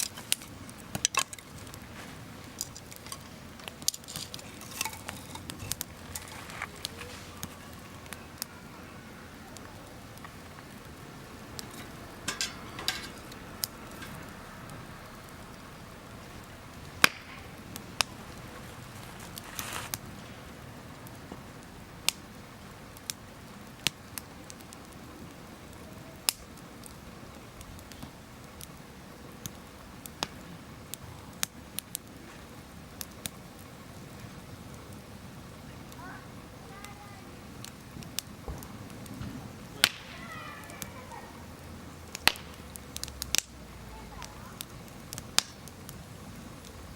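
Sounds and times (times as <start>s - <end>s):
campfire crackling: 0.0s - 46.9s
low fire hiss: 0.0s - 46.9s.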